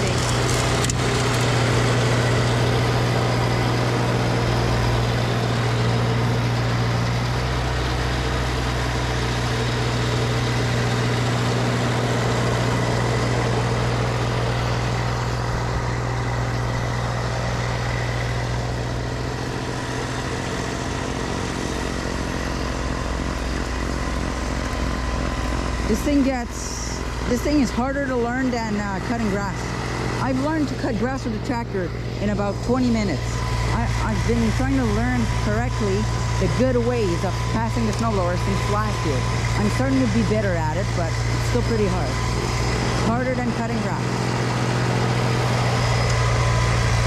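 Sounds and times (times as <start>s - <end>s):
snowblower engine running: 0.0s - 47.0s.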